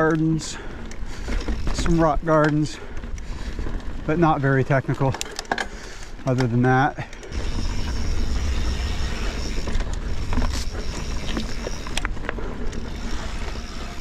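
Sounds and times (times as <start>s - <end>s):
bike clicks and rattles: 0.0s - 14.0s
bike tyres rolling over dirt: 0.0s - 14.0s.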